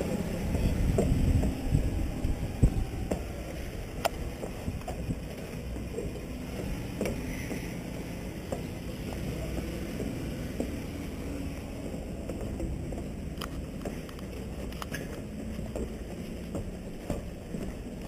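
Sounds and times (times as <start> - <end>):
footsteps on wooden stairs: 0.0 - 18.0
steady low rumble: 0.0 - 18.0.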